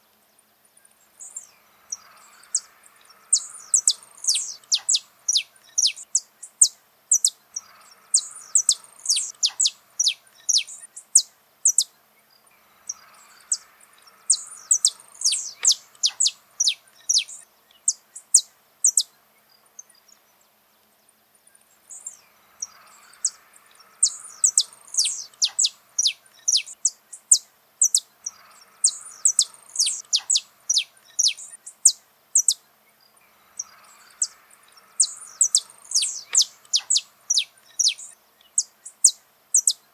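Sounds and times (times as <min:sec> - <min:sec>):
finch singing: 0:01.0 - 0:20.9, 0:21.6 - 0:39.9.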